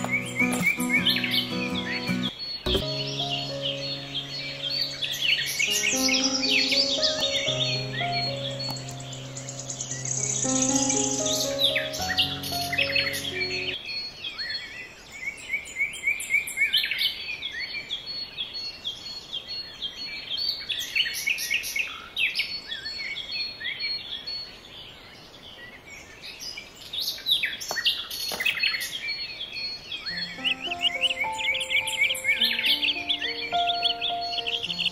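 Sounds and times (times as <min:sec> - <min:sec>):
songbirds chirping and twittering: 0:00.0 - 0:34.9.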